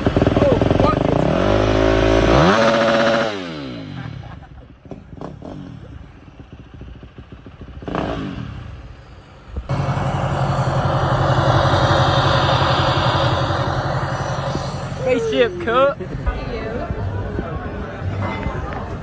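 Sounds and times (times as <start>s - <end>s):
dirt bike engine revving: 0.0s - 8.9s, 9.7s - 16.2s
steady loud rumble: 0.0s - 19.0s.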